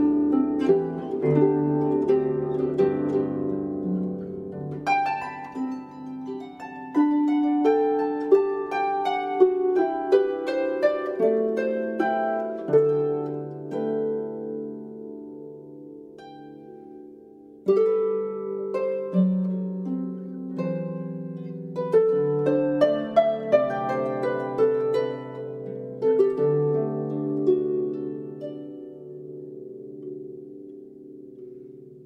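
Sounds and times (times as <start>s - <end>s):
solo harp playing: 0.0s - 32.0s.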